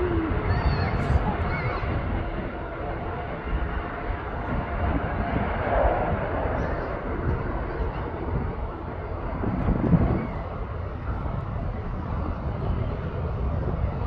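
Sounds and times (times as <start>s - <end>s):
jet engines rumbling on climb: 0.0s - 14.0s.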